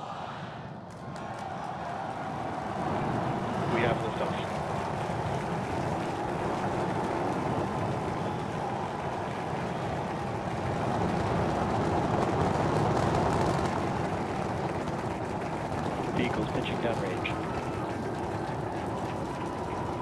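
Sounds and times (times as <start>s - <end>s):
rocket engines rumbling: 0.0s - 20.0s.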